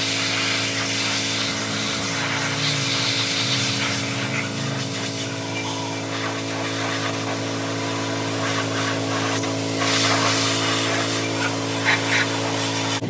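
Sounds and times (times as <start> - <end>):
pressure washer motor droning: 0.0 - 13.0
water spray hissing: 0.0 - 13.0.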